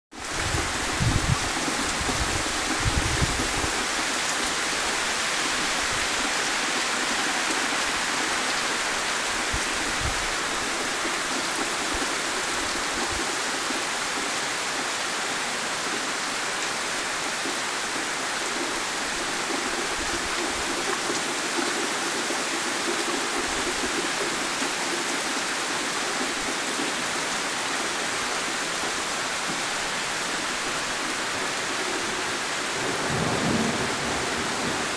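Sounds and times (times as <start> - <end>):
heavy rain pouring: 0.1 - 34.9
water streaming off roof: 0.1 - 34.9.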